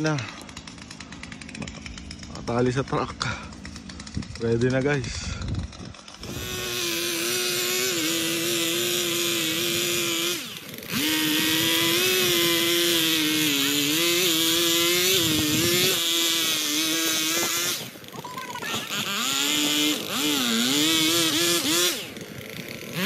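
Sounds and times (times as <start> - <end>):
chainsaw cutting tree trunk: 0.0 - 23.0.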